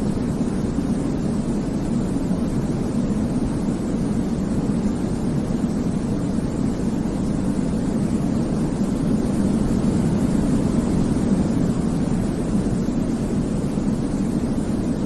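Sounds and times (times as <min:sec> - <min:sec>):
deep rumbly white noise: 0:00.0 - 0:15.0.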